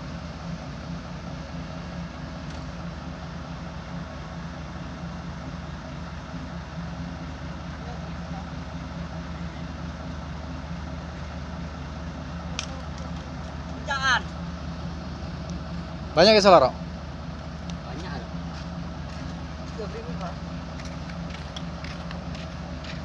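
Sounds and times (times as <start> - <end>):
excavator diesel engine idling: 0.0 - 23.0.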